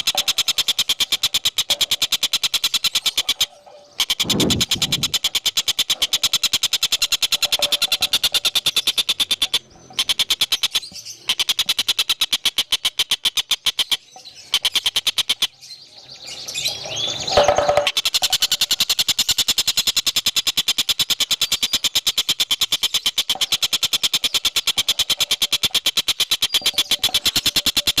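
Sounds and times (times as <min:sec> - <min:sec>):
bird trilling and whistling: 0:00.0 - 0:28.0.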